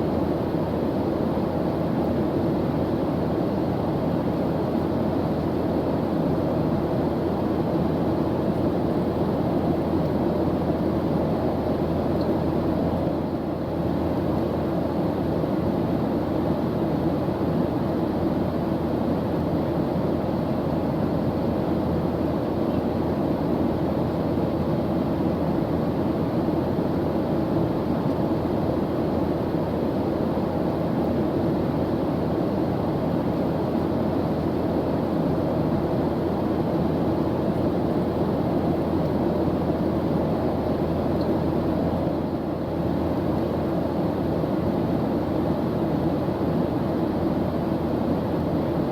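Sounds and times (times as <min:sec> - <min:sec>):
airplane engine drone: 0:00.0 - 0:48.9.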